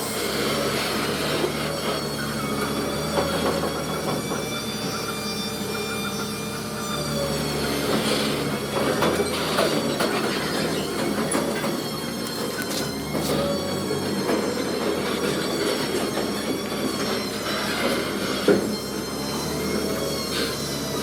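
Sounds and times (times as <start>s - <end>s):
machinery metallic squeal: 0.0s - 21.0s.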